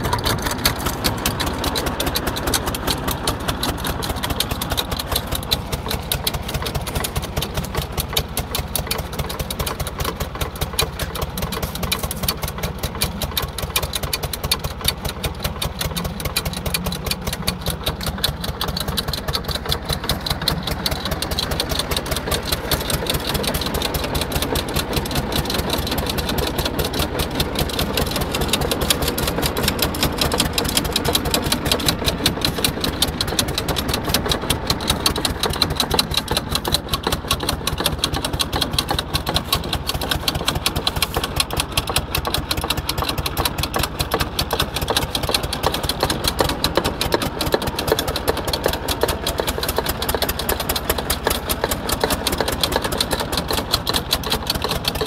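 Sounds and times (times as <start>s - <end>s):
spreader mechanical clatter: 0.0s - 55.0s
tractor engine: 0.0s - 55.0s.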